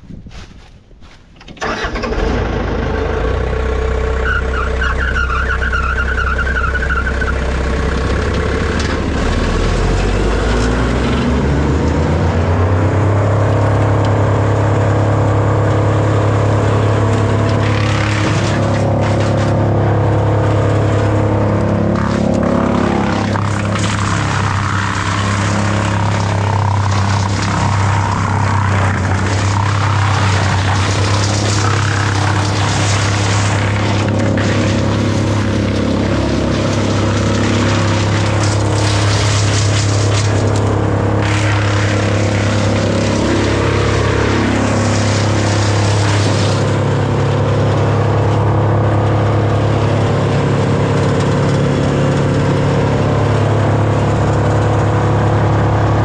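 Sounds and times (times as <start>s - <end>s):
large engine revving: 1.6s - 56.0s.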